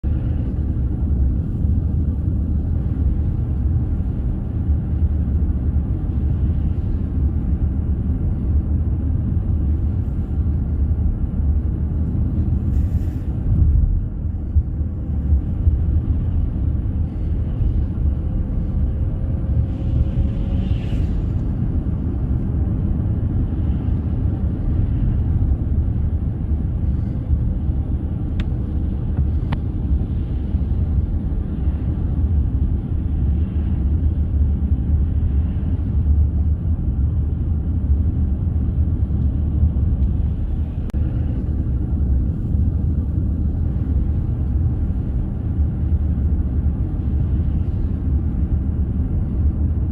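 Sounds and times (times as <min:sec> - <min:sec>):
low rumble: 0:00.0 - 0:49.9.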